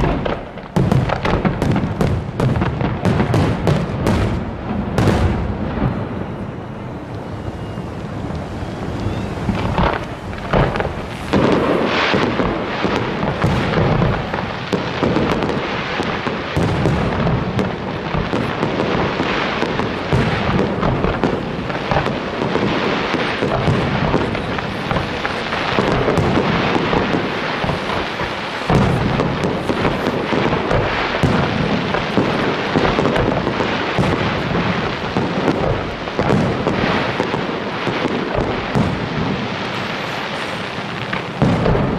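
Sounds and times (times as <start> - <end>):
fireworks barrage: 0.0 - 41.9.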